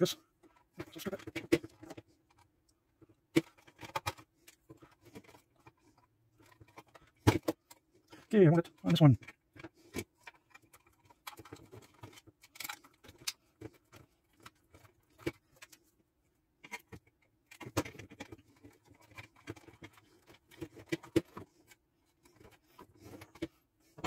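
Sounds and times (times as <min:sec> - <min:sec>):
wires clicking in plastic box: 0:00.4 - 0:15.9, 0:16.6 - 0:24.0.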